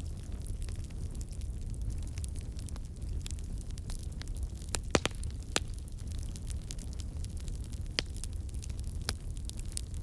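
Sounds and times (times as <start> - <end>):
campfire rumble: 0.0 - 10.0
wood crackling and popping: 0.0 - 10.0.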